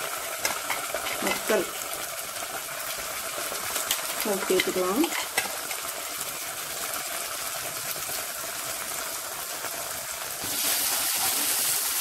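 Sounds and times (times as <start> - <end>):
chilli paste sizzling in hot oil: 0.0 - 12.0.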